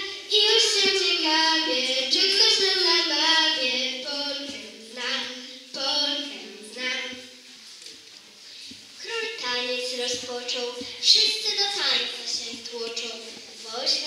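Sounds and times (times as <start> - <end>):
child singing: 0.0 - 7.3, 9.0 - 14.0.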